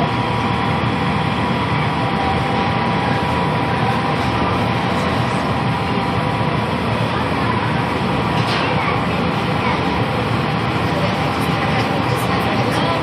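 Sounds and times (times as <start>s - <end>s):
furnace burner roaring: 0.0s - 13.0s
thin steady whine: 0.0s - 13.0s.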